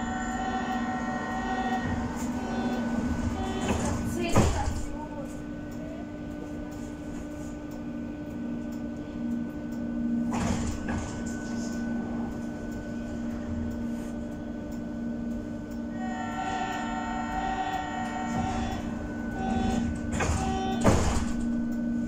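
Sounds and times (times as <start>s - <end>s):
train equipment humming: 0.0s - 22.0s.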